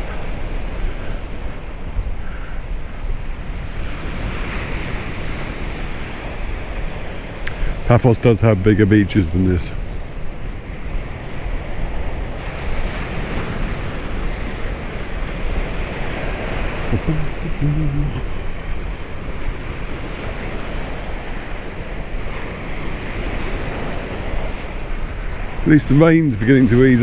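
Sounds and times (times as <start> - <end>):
waves washing onto beach: 0.0 - 27.0
wind buffeting microphone: 0.0 - 27.0.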